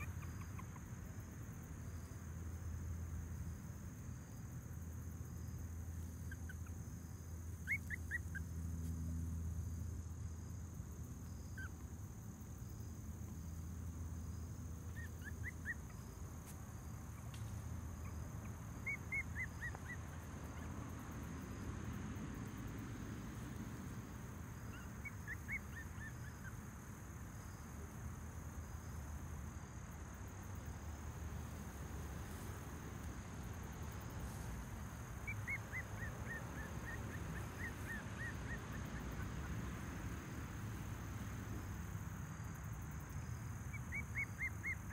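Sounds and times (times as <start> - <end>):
high drone of insects: 0.0 - 44.9.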